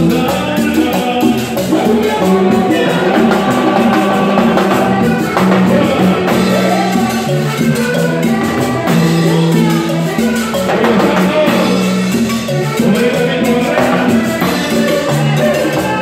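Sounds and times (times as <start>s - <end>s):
salsa music: 0.0s - 16.0s.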